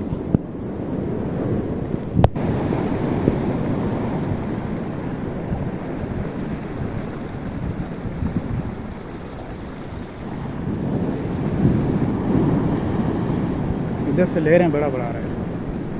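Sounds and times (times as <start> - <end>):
heavy surf breaking: 0.0 - 15.9
wind buffeting microphone: 0.0 - 15.9.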